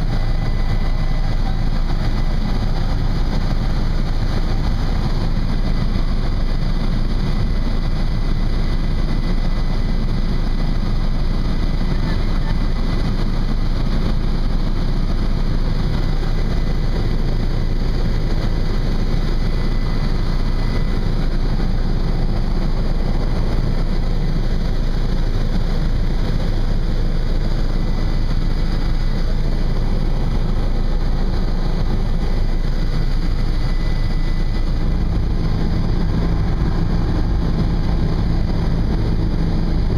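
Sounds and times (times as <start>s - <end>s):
faint high whine: 0.0s - 39.9s
helicopter engine and rotor: 0.0s - 39.9s.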